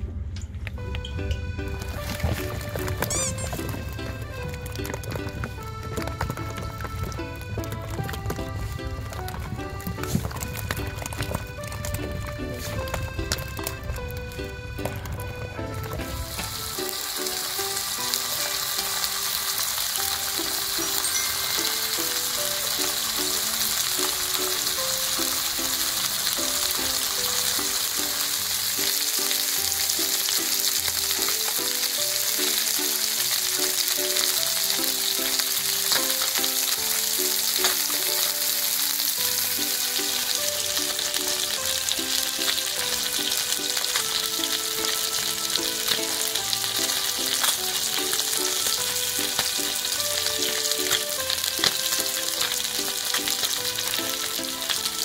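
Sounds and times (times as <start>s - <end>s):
quiet background music: 0.0s - 55.0s
fish sizzling in oil: 1.7s - 15.2s, 15.8s - 55.0s.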